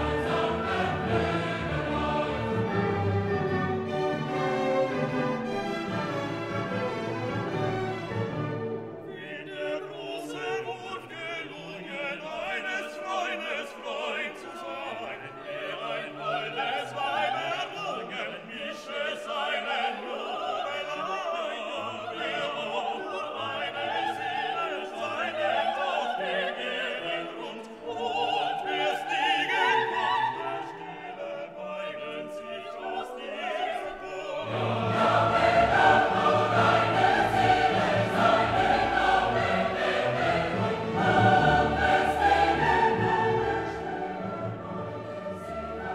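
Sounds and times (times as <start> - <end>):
operatic singing with orchestra: 0.0 - 45.9.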